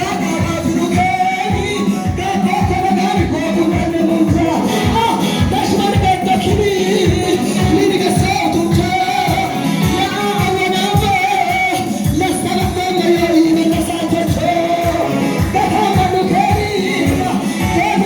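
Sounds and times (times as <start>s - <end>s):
band with steady drum beat: 0.0s - 18.0s.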